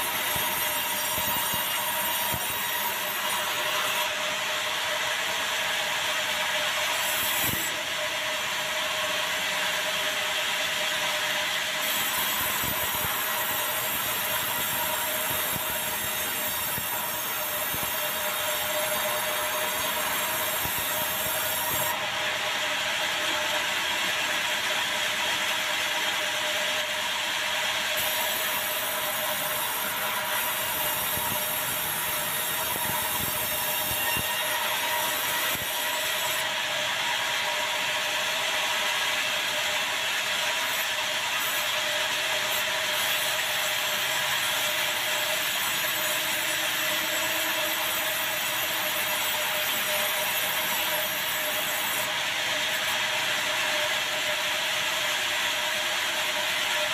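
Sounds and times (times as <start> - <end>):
sawmill saw cutting log: 0.0 - 56.9.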